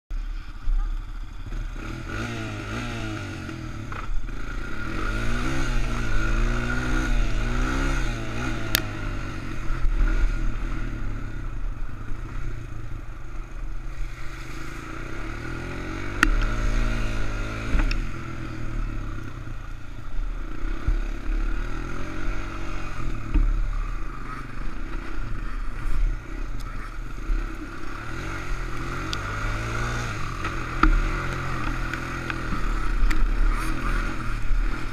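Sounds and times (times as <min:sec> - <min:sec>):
atv engine revving: 0:00.2 - 0:34.9.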